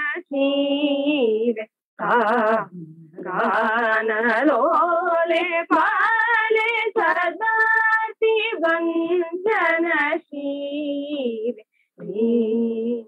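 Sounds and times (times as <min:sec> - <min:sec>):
two women singing unaccompanied: 0:00.0 - 0:13.0.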